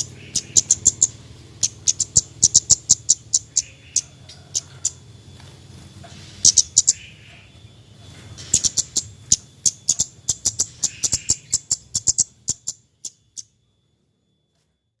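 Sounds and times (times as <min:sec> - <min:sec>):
bird chipping calls: 0:00.0 - 0:13.6.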